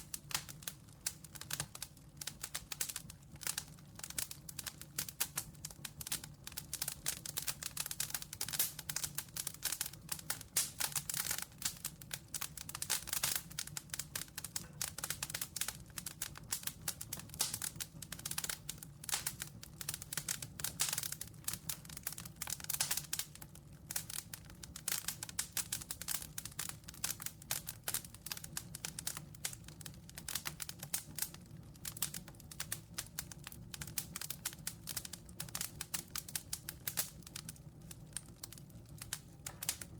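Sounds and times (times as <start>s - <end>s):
low rumble of flame: 0.0s - 39.9s
sharp pops and snaps: 0.0s - 39.9s
wood fire crackling: 0.0s - 39.9s.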